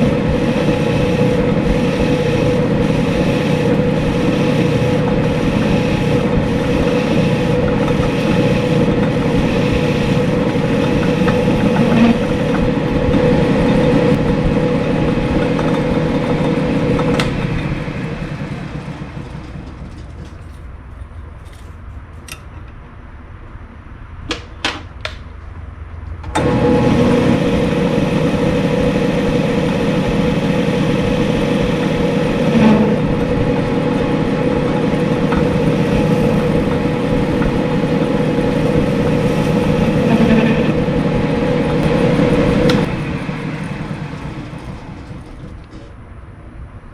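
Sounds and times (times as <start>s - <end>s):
metal lathe humming: 0.0s - 21.8s, 26.4s - 45.9s.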